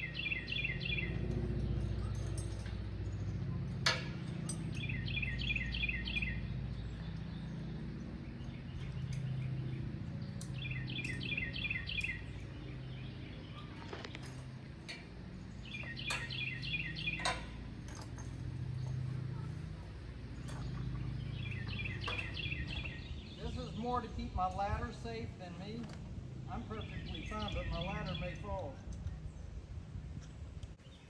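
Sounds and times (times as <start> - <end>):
songbird chirping: 0.0 - 31.0
steady low rumble: 0.0 - 31.0.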